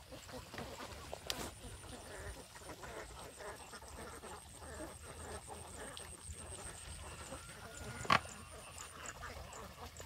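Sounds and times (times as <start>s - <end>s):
ducks quacking softly: 0.0s - 10.0s.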